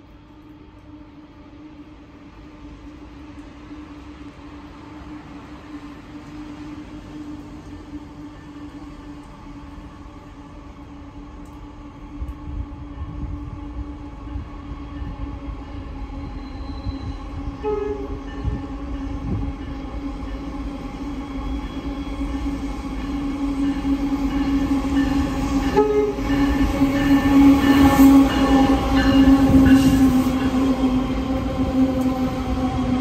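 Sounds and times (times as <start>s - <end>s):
diesel locomotive engine drone: 0.0s - 33.0s.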